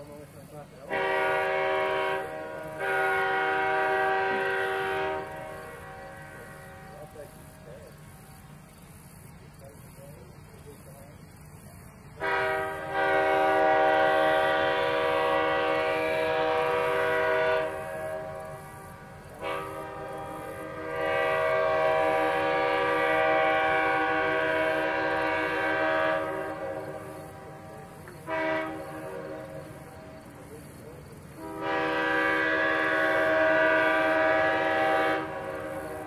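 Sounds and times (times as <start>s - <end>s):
air horn blasts: 0.9s - 7.3s, 12.2s - 30.6s, 31.3s - 36.0s.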